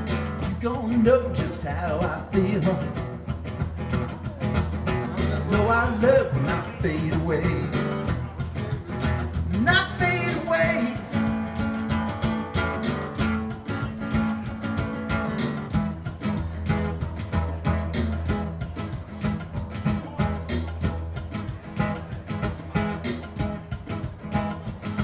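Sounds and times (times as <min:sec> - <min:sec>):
acoustic guitar strumming: 0:00.0 - 0:25.0
bass line: 0:00.0 - 0:25.0
drum machine beat: 0:00.0 - 0:25.0.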